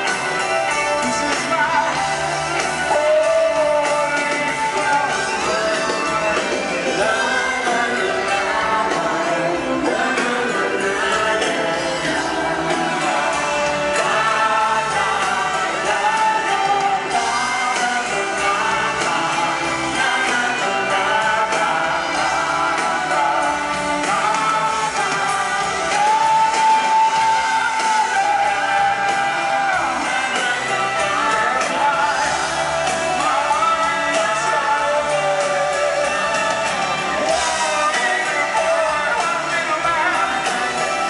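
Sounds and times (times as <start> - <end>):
live band playing: 0.0 - 41.0
person singing: 0.0 - 41.0.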